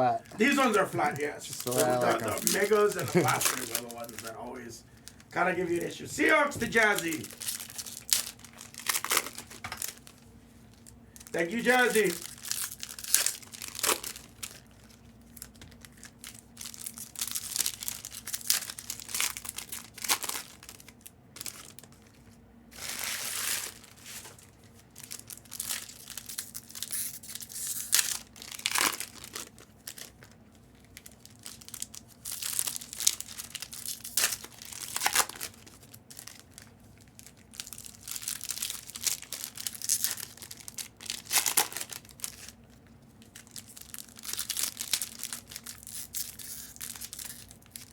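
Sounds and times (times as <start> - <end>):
plastic wrappers crinkling and tearing: 0.2 - 47.9.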